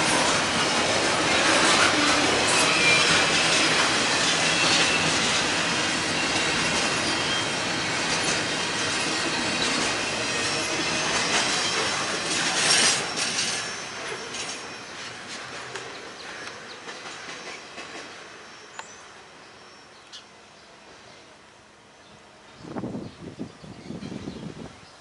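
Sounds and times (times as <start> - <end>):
train wheels rolling on rail: 0.0 - 20.2.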